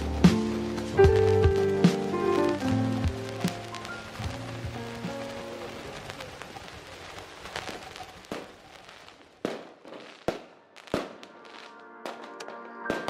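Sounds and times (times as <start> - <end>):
faint music: 0.0 - 9.0, 10.4 - 13.0
firework bangs: 0.0 - 13.0
fireworks crackling: 0.0 - 13.0.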